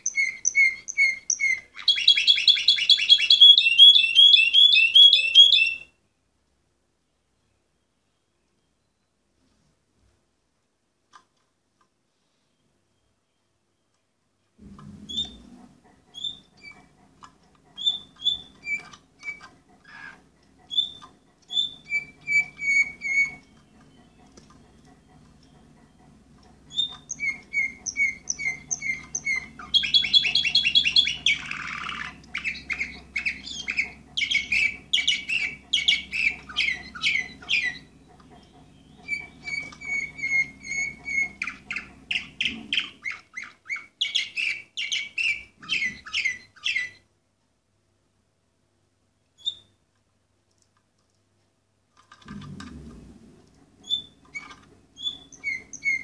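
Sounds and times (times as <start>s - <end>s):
canary singing chirps and trills: 0.0s - 6.3s, 12.5s - 47.2s, 49.1s - 49.9s, 52.0s - 56.0s.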